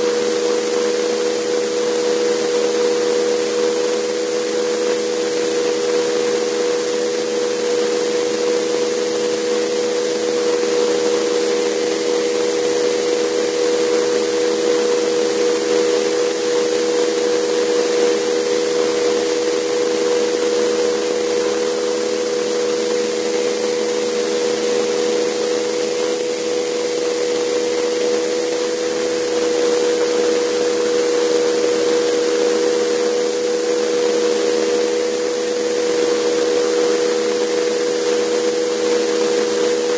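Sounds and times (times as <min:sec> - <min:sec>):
model helicopter turbine and rotor: 0:00.0 - 0:39.9.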